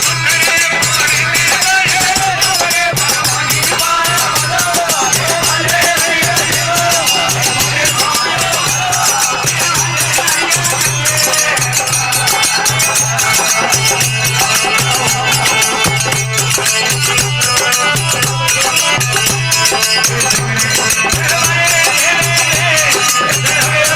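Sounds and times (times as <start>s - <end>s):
devotional folk music: 0.0s - 23.9s.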